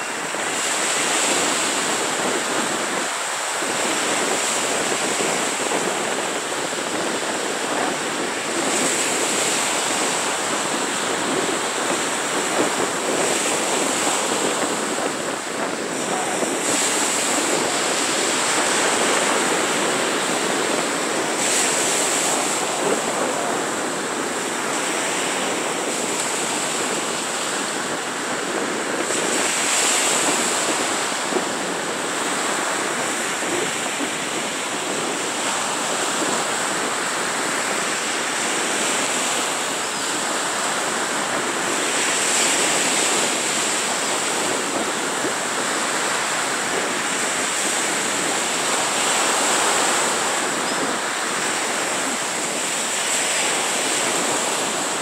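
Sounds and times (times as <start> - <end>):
small waves breaking on sand: 0.0 - 55.0.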